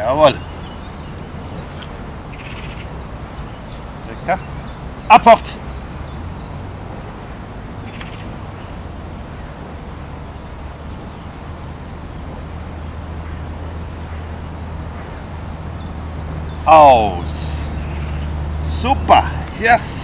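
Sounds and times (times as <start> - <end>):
low rumble of distant machinery: 0.0 - 20.0.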